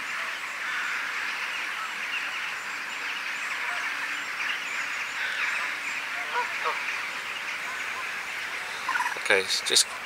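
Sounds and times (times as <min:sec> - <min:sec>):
many birds chattering: 0:00.0 - 0:10.0.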